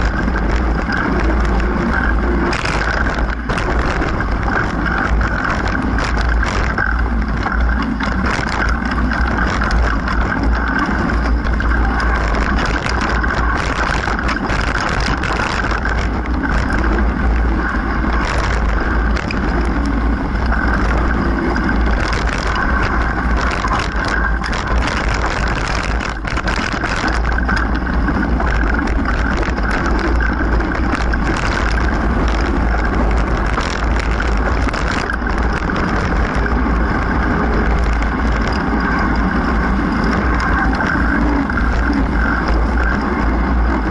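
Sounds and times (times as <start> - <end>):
bike rattling and knocking: 0.0 - 43.9
bike tyre noise: 0.0 - 43.9
wind rumble on microphone: 0.0 - 43.9.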